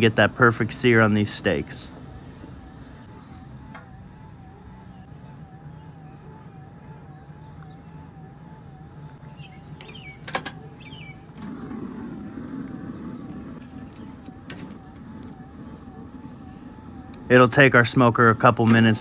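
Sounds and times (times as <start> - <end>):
pellet smoker humming: 0.0 - 19.0.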